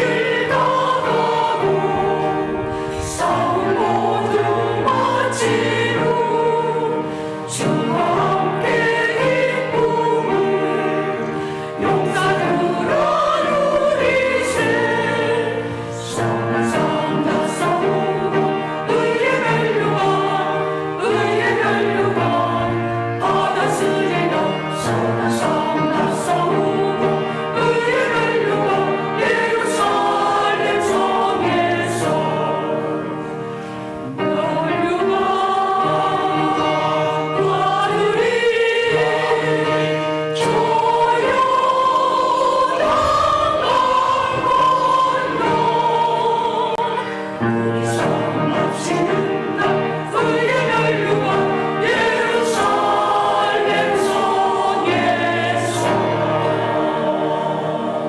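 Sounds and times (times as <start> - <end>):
church choir singing: 0.0 - 58.0.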